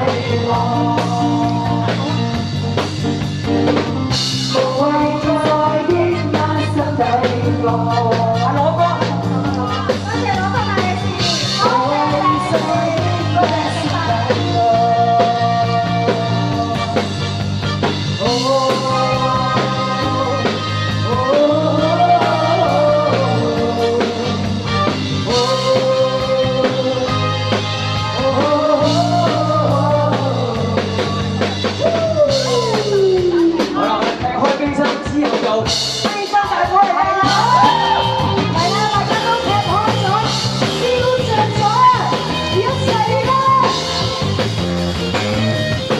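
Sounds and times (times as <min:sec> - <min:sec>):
person singing: 0:00.0 - 0:02.8, 0:04.4 - 0:17.4, 0:18.1 - 0:44.5
instrumental accompaniment: 0:00.0 - 0:45.9.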